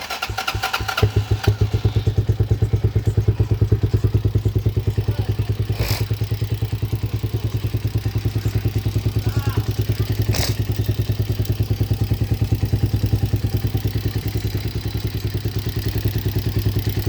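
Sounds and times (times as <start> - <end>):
motorbike engine idling: 0.0 - 17.0.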